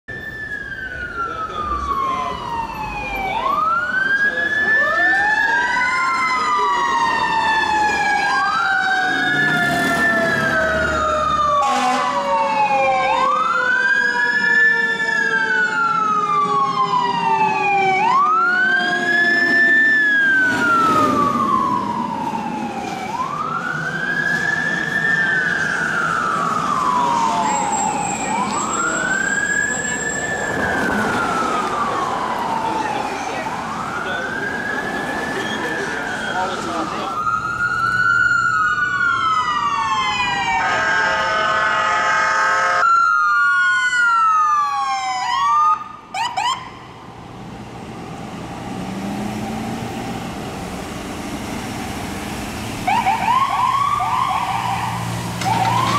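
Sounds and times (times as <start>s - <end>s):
lower siren tone gliding down: 0.1s - 47.0s
fire engine siren wailing: 0.1s - 55.9s.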